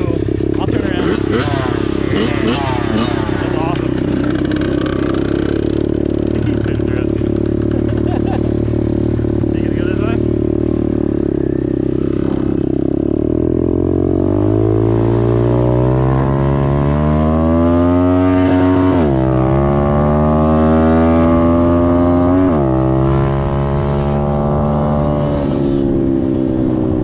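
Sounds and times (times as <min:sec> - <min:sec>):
dirt bike engine accelerating: 0:00.0 - 0:27.0.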